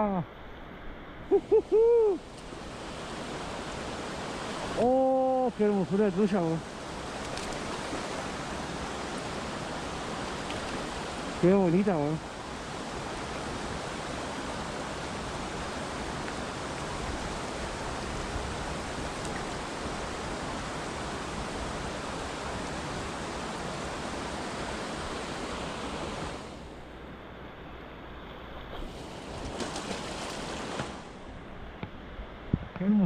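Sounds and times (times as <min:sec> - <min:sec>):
river water rushing: 0:00.3 - 0:32.2.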